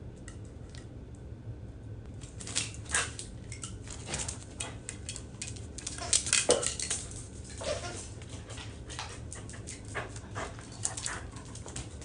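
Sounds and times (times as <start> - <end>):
dog claws clicking on tiles: 2.2 - 12.0.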